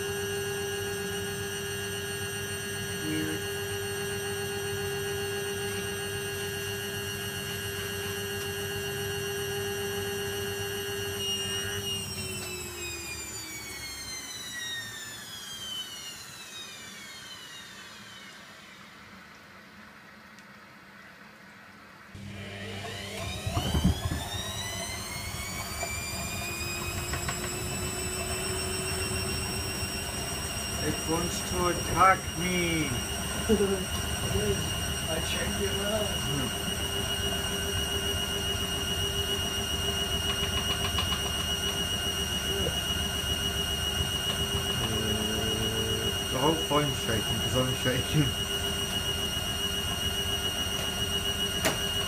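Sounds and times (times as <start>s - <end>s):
washing machine spin whine: 0.0s - 52.0s.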